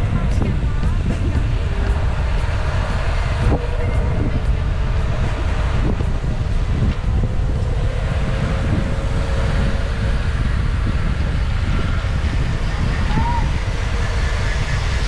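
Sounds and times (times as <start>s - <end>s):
low road noise rumble: 0.0s - 15.0s
wind buffeting microphone: 0.0s - 15.0s.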